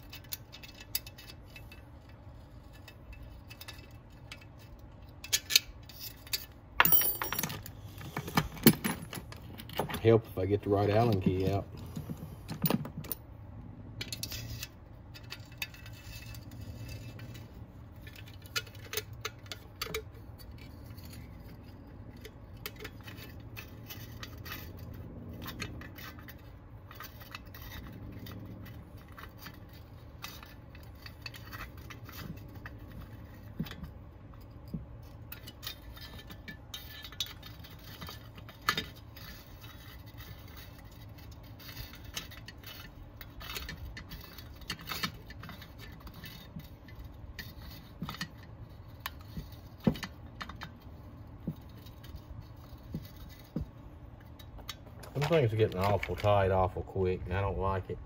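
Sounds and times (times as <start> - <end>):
metallic clicks and scrapes of key: 0.0 - 56.3
steady low hum: 0.0 - 58.0.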